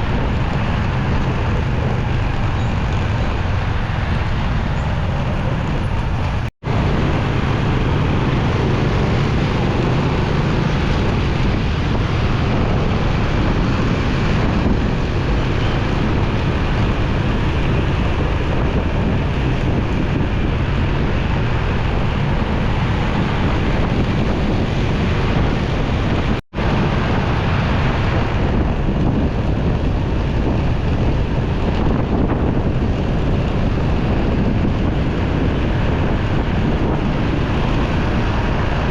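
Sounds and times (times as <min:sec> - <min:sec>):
motorcycle engine: 0:00.0 - 0:38.9
wind rushing over microphone: 0:00.0 - 0:38.9.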